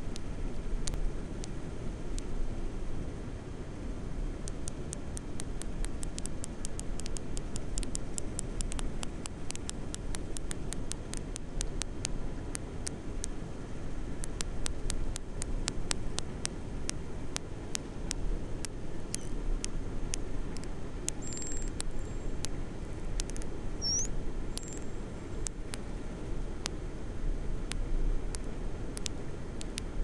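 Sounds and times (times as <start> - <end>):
whale echolocation clicks: 0.0 - 2.3, 4.4 - 13.4, 14.2 - 25.9, 27.7 - 29.9.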